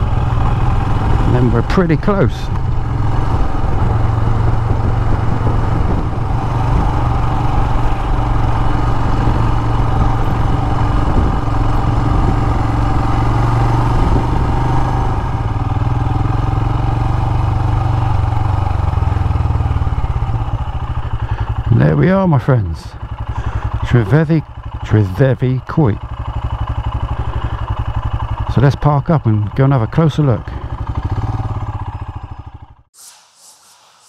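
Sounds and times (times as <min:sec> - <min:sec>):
motorcycle engine running: 0:00.0 - 0:32.9
road and wind noise: 0:00.0 - 0:32.9.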